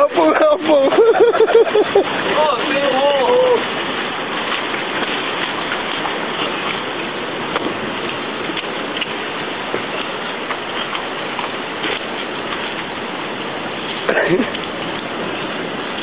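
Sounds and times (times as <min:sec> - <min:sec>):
sea water washing against rocks: 0:00.0 - 0:16.0.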